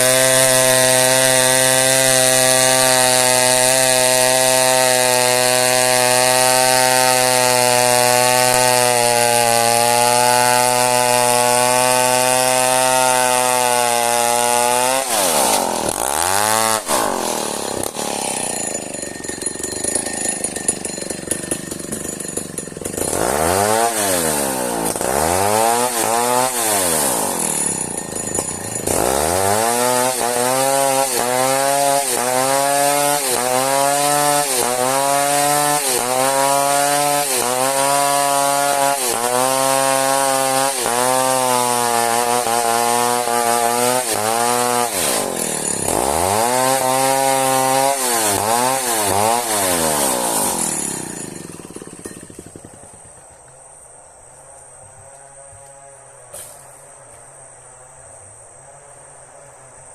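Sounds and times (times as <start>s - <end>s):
chainsaw cutting timber: 0.0s - 57.3s.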